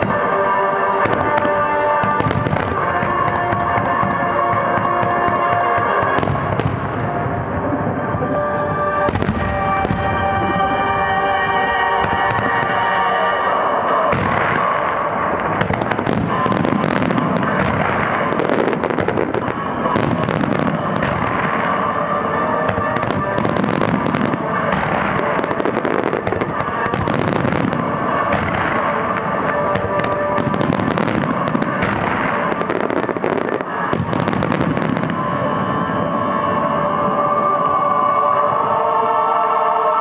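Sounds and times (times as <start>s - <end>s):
show music playing: 0.0s - 40.0s.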